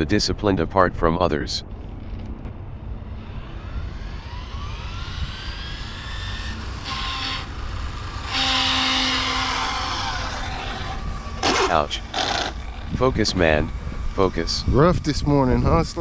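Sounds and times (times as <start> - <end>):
rc car motor whine: 3.0 - 16.0.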